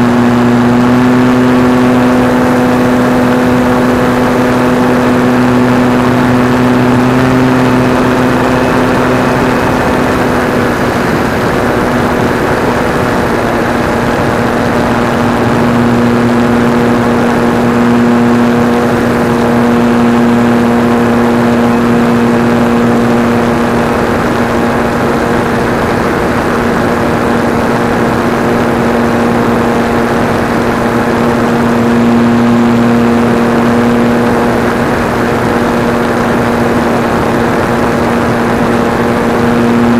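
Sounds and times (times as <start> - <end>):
model airplane motor and propeller: 0.0 - 39.9.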